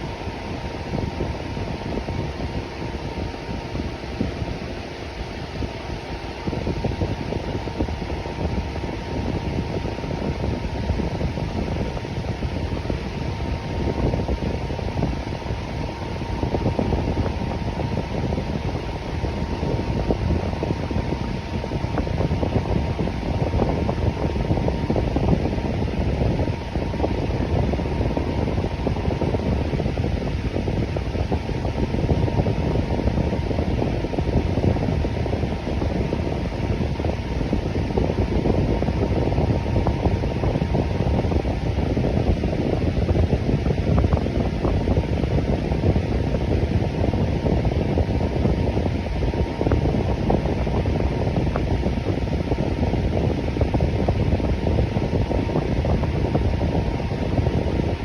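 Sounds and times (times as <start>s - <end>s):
electric fan whooshing: 0.0s - 58.0s
faint steady hum: 0.0s - 58.0s.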